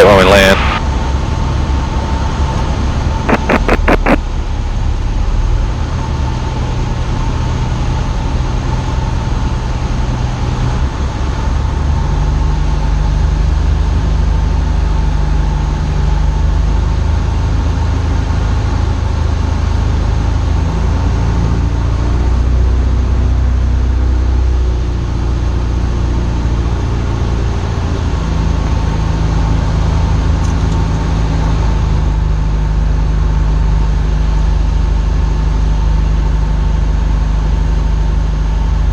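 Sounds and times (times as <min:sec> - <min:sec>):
light aircraft engine droning: 0:00.0 - 0:38.9.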